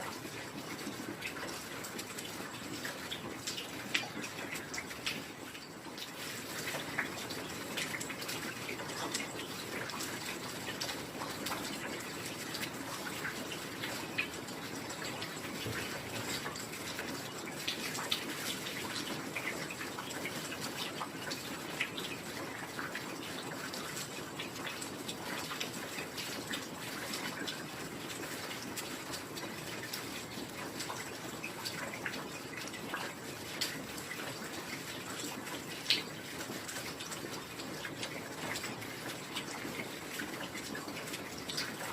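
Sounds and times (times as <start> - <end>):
hiss of falling rain: 0.0 - 41.9.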